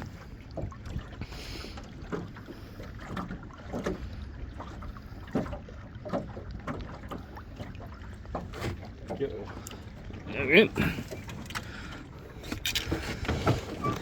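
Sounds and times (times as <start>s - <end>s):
knocks and clatter in boat: 0.0s - 14.0s.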